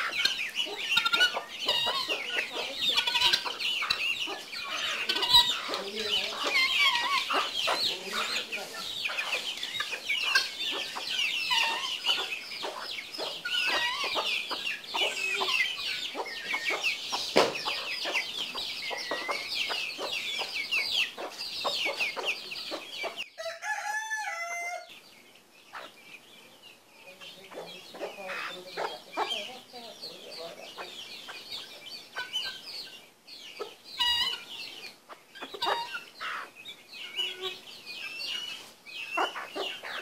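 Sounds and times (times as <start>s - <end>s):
hen clucking: 0.0s - 23.3s, 27.0s - 40.0s
chicks peeping: 0.0s - 40.0s.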